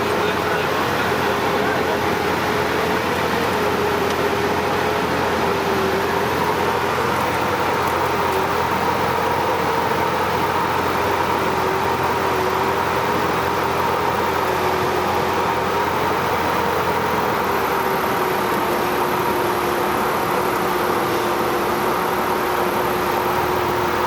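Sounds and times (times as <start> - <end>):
plane engine and propeller droning: 0.0 - 24.0.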